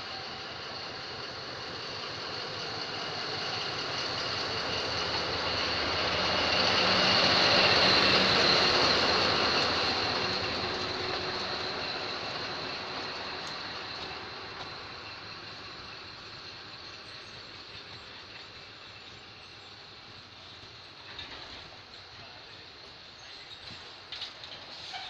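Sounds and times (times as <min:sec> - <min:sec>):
diesel locomotives passing: 0:00.0 - 0:25.0.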